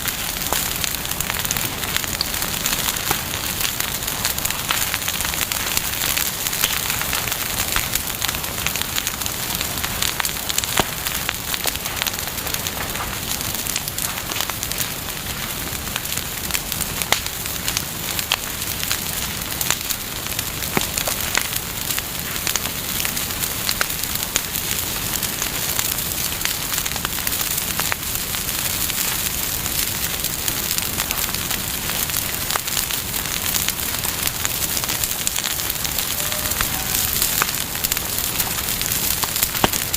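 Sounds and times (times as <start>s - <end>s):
campfire crackling and hissing: 0.0s - 39.9s.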